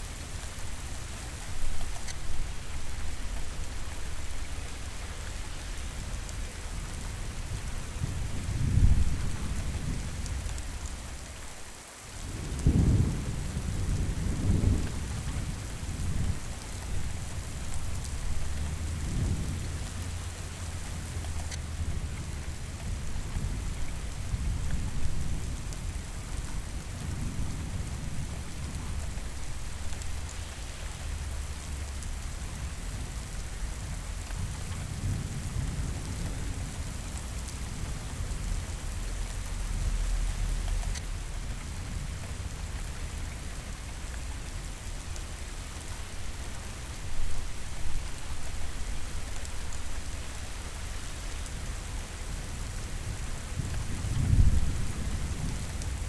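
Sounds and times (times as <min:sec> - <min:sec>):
heavy rain falling: 0:00.0 - 0:56.0
low rolling thunder: 0:06.8 - 0:11.1, 0:12.2 - 0:40.6, 0:41.2 - 0:56.0.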